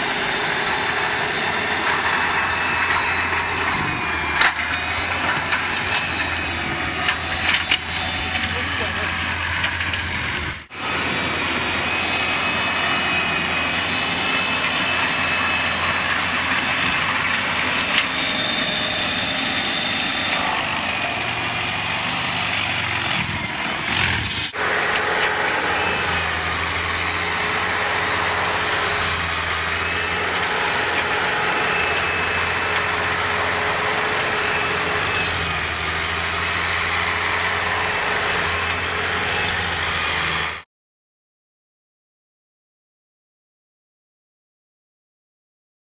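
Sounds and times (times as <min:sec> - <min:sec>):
tractor diesel engine under load: 0:00.0 - 0:40.7.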